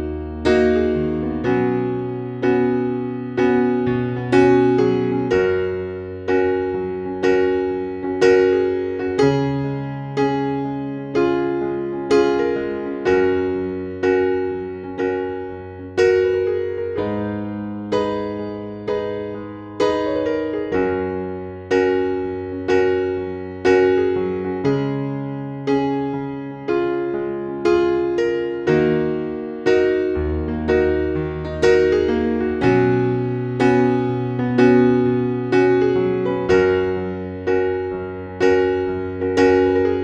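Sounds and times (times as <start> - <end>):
slow gentle piano music: 0.0 - 40.0.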